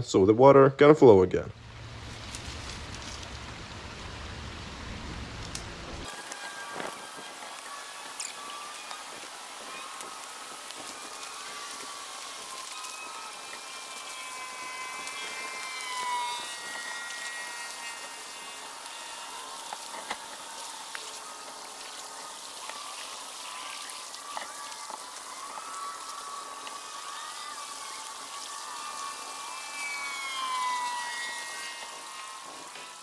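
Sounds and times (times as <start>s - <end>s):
water rushing: 1.6s - 33.0s.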